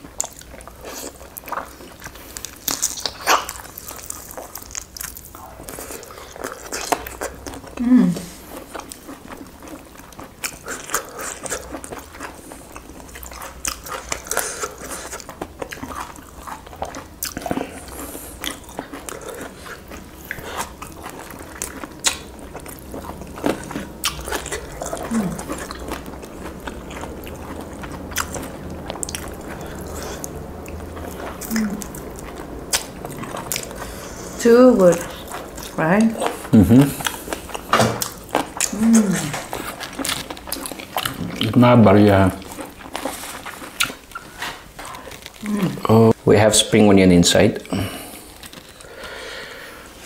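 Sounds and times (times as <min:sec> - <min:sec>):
chewing and biting: 0:00.0 - 0:41.7, 0:42.3 - 0:45.8, 0:47.8 - 0:48.9.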